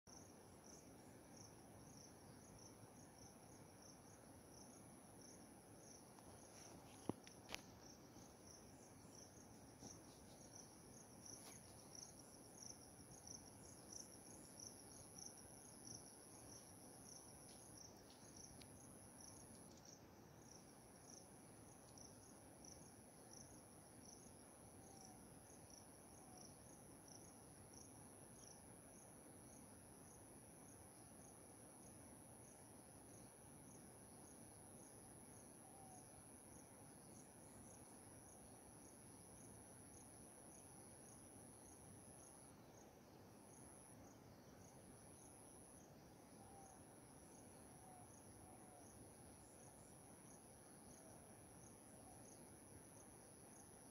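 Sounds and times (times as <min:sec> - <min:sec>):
insect chirping: 0:00.1 - 0:53.9.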